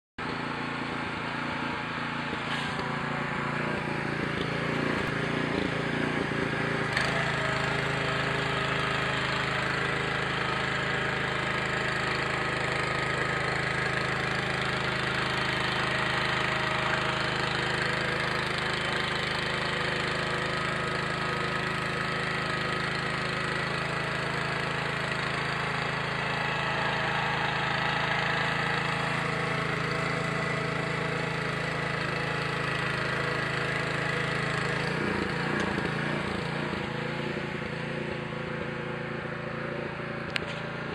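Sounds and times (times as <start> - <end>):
tiller engine running: 0.2 - 40.9.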